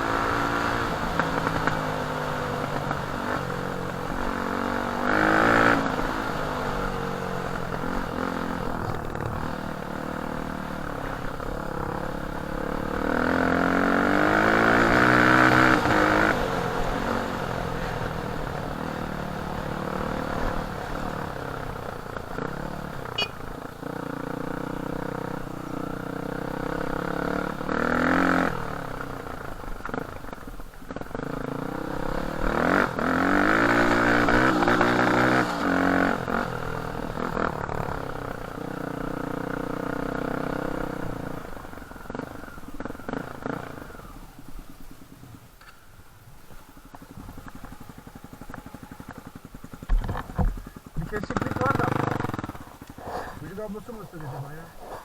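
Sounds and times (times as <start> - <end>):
dirt bike engine revving: 0.0 - 45.2, 46.6 - 55.0.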